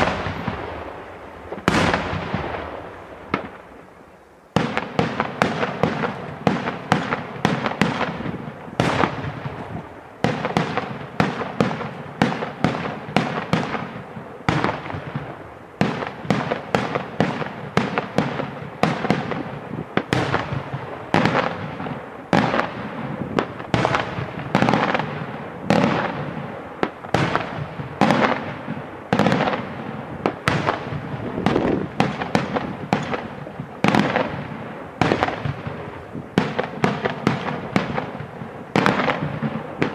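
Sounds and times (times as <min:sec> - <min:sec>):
fireworks bangs with echo: 0:00.0 - 0:39.9.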